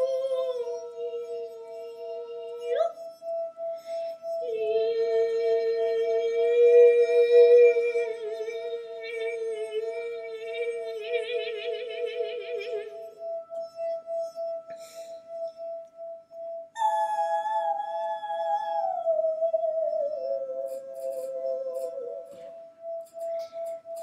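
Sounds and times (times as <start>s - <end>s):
wavering tone with vibrato: 0.0s - 24.0s.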